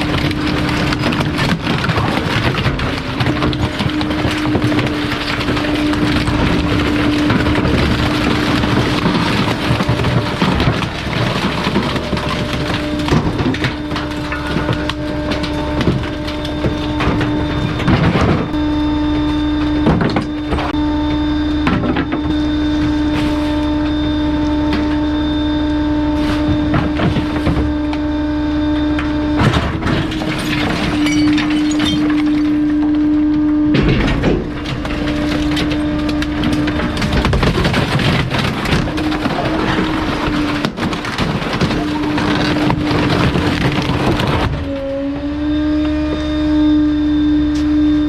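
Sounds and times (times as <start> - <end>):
hydraulic packer whine: 0.0 - 48.0
wood cracking and splintering: 0.0 - 48.0.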